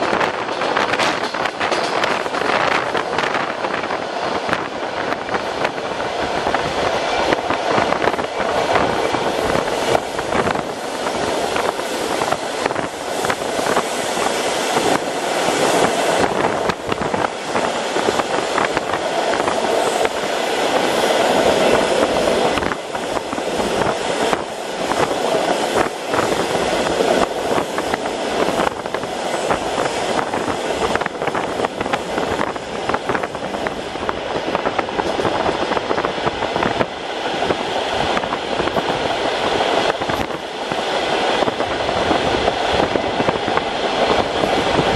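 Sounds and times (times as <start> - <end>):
wheels rumbling on rails: 0.0 - 44.9.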